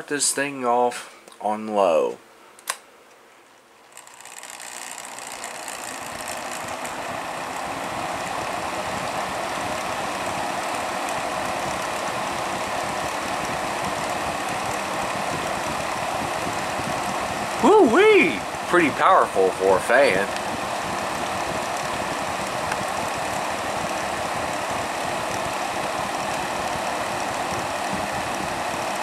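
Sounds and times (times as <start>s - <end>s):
box fan running: 3.6s - 29.0s.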